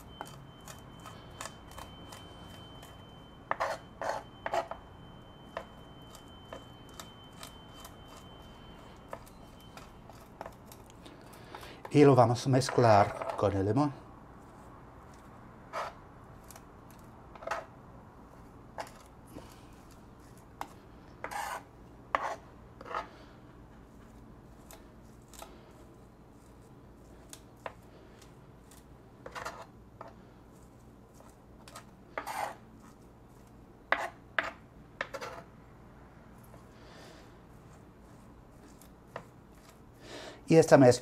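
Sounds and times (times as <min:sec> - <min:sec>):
knife scraping on board: 0:00.0 - 0:13.5, 0:14.4 - 0:17.7, 0:18.8 - 0:23.2, 0:23.8 - 0:35.5, 0:37.5 - 0:39.8.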